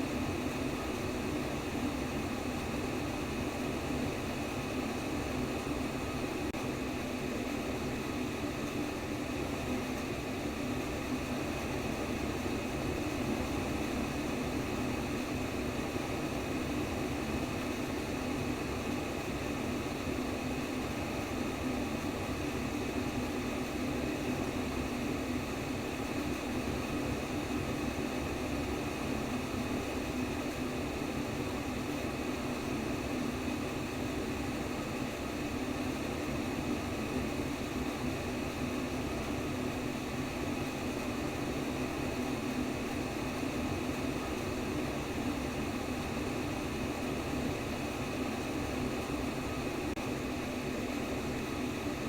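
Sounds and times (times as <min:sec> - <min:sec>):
steady white noise: 0:00.0 - 0:52.0.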